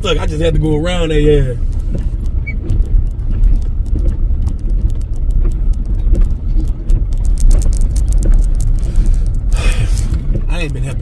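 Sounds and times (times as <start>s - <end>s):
truck rumble from inside cabin: 0.0s - 11.0s
small clicks and knocks: 0.1s - 11.0s.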